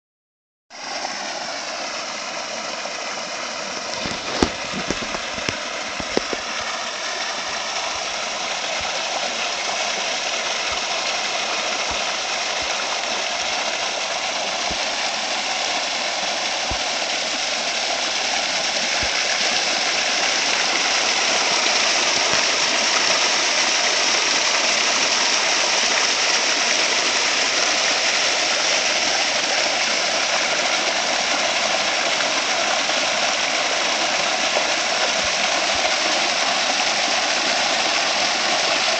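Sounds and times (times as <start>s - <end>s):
spring water gushing and splashing: 0.8s - 38.9s.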